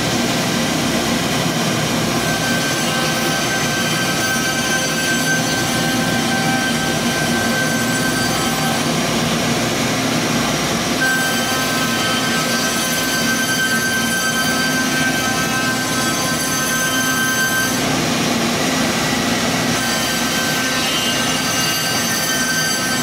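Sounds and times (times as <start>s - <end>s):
router spindles whining: 1.5s - 9.1s, 10.5s - 23.0s.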